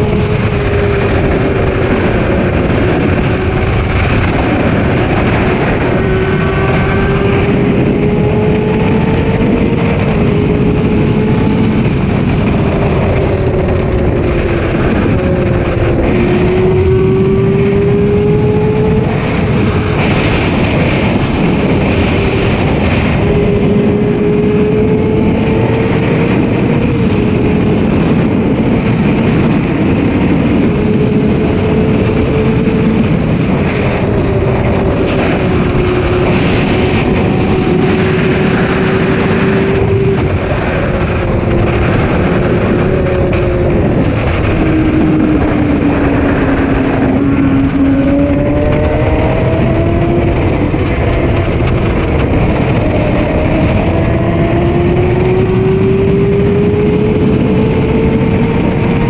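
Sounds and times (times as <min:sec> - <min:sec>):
motorcycle engine at high revs: 0:00.0 - 0:59.0
wind rush on microphone: 0:00.0 - 0:59.0.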